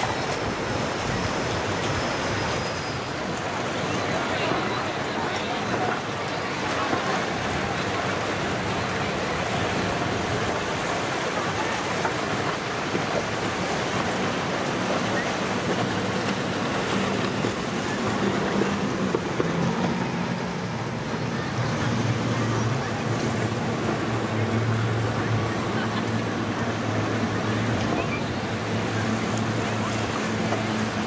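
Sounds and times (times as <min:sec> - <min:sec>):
boat engine drone: 0:00.0 - 0:31.0
waves and surf: 0:00.0 - 0:31.0.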